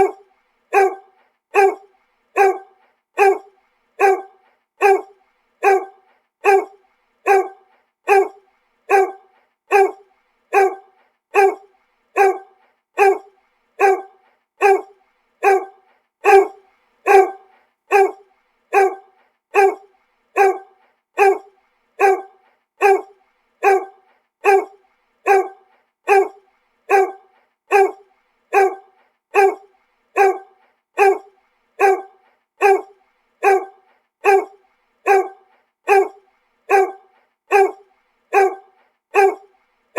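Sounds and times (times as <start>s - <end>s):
dog barking: 0.0s - 39.5s.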